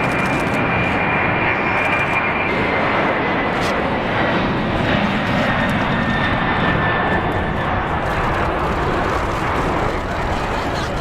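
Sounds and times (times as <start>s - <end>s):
airplane engines running: 0.0s - 11.0s.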